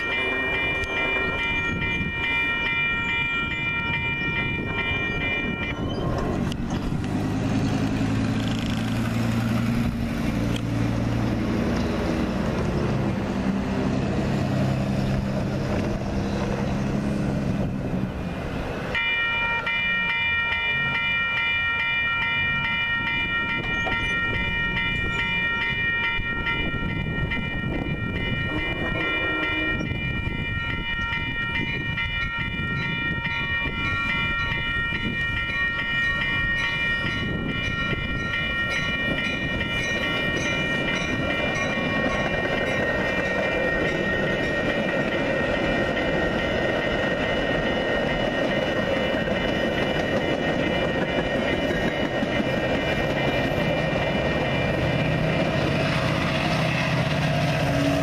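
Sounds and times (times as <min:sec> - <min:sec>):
crossing warning bell ringing: 0:00.0 - 0:58.0
train cars rolling past: 0:00.0 - 0:58.0.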